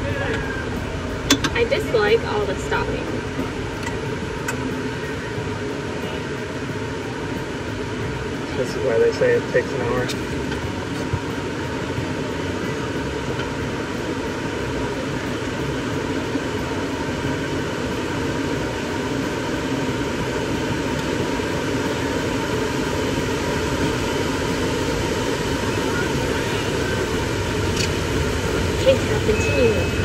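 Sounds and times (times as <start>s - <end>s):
faint steady whine: 0.0s - 30.0s
golf cart driving: 0.0s - 30.0s
wind: 0.0s - 30.0s.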